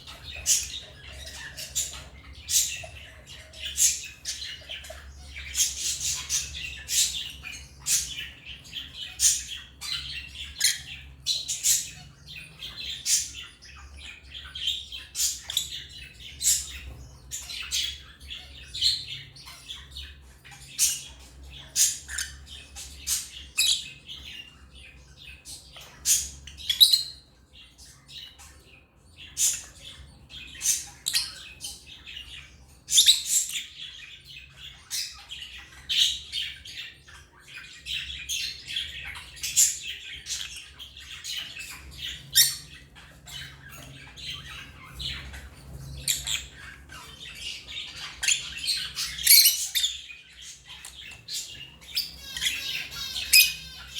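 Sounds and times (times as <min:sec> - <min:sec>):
lovebirds chirping: 0:00.0 - 0:53.9.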